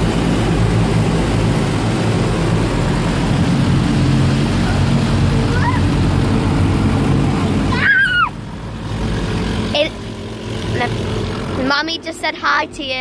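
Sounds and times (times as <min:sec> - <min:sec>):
car wash machinery spraying: 0:00.0 - 0:13.0.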